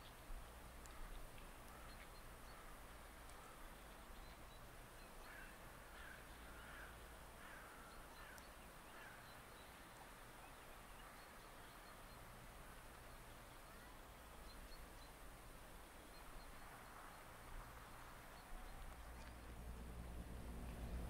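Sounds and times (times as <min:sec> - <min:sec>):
distant bird calls: 0:00.0 - 0:21.0.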